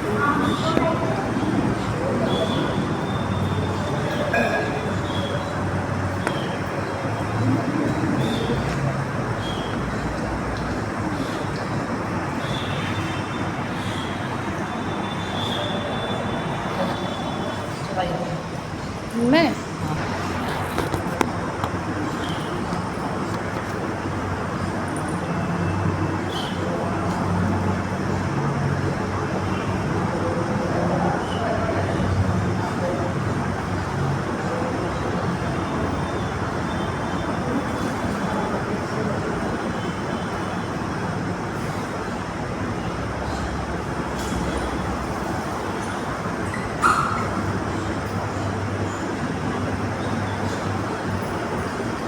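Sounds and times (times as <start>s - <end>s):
road traffic with engine hum: 0.0s - 52.0s.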